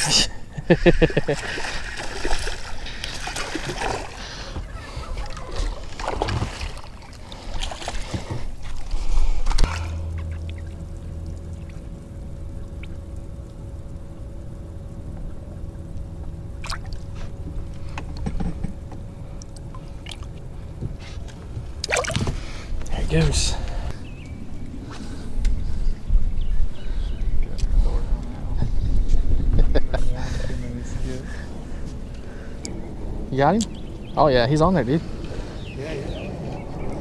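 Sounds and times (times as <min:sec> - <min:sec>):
boat motor humming: 0:00.0 - 0:37.0
wind and water noise: 0:00.0 - 0:37.0.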